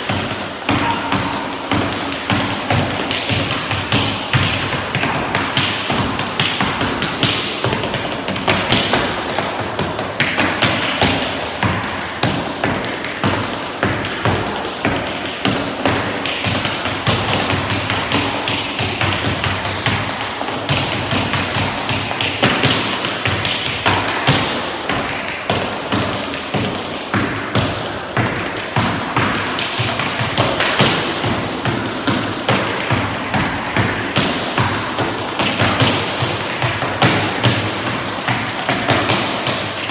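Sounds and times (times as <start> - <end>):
tap shoes tapping: 0.0 - 39.9.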